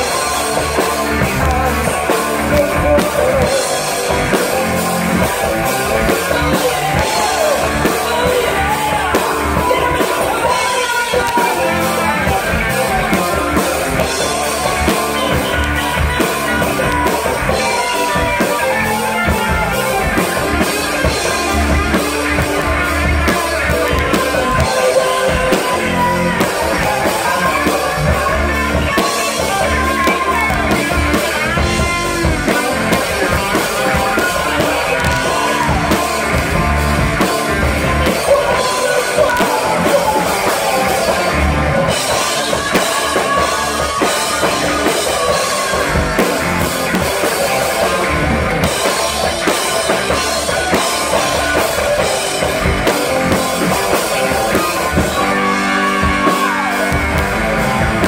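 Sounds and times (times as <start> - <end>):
drum kit: 0.0 - 58.0
electric guitar: 0.0 - 58.0
keyboards: 0.0 - 58.0
lead singer singing: 0.0 - 58.0.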